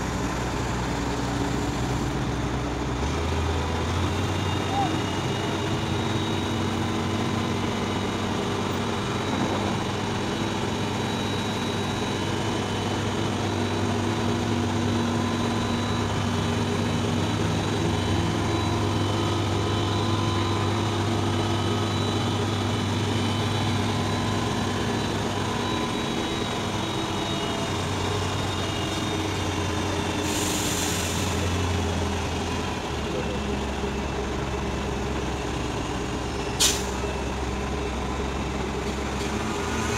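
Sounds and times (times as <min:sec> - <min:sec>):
crane diesel engine running: 0:00.0 - 0:39.9.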